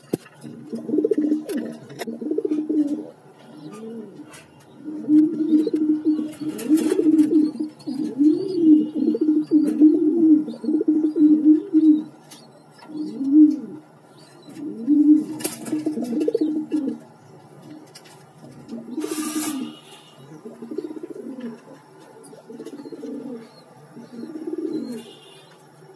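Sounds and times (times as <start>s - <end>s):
pigeons cooing: 0.2s - 25.9s.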